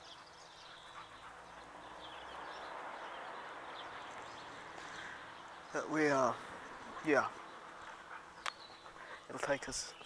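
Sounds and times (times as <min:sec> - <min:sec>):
small birds chirping: 0:00.0 - 0:10.0
steady outdoor hiss: 0:00.0 - 0:10.0.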